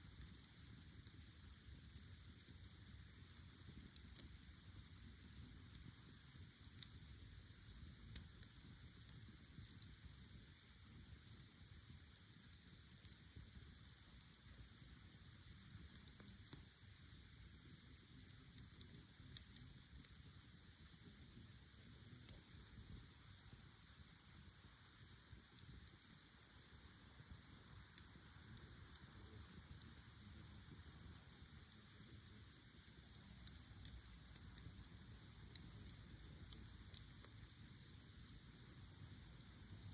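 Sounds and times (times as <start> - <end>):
crickets chirring: 0.0 - 39.9
campfire crackling: 0.1 - 39.9.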